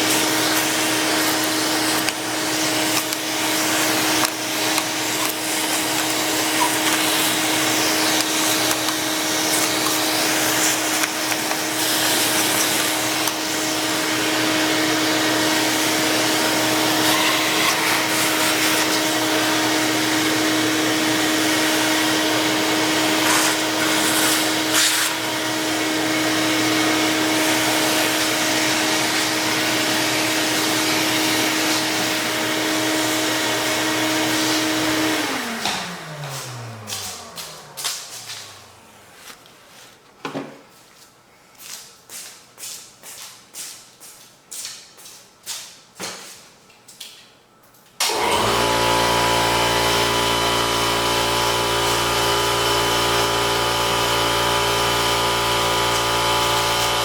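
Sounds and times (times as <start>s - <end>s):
vacuum cleaner motor whine: 0.0s - 39.8s, 48.0s - 57.0s.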